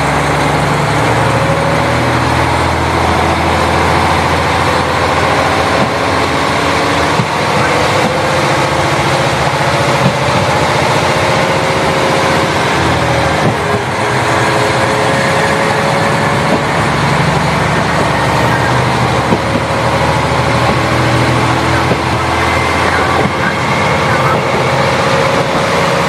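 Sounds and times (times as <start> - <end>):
diesel railcar engine droning: 0.0 - 26.0.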